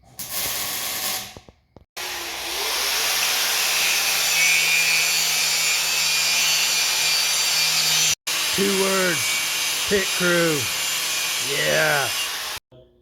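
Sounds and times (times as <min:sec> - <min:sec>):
angle grinder grinding steel: 0:02.0 - 0:12.6.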